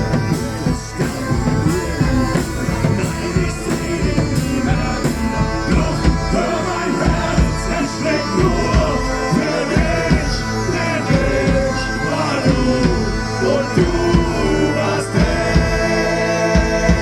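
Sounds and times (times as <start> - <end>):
drum beats: 0.0 - 17.0
folk band with drone and melody: 0.0 - 17.0.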